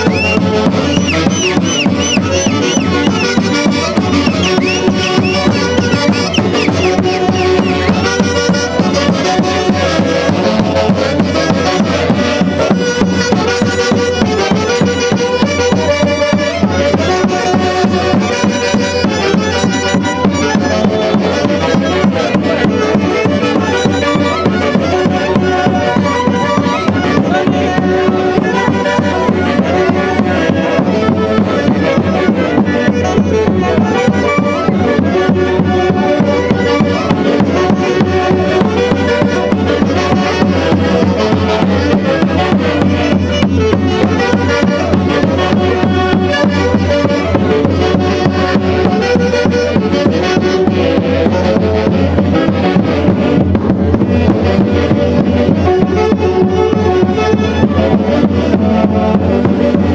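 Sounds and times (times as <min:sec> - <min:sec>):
folk ensemble instrumental music: 0:00.0 - 0:59.9.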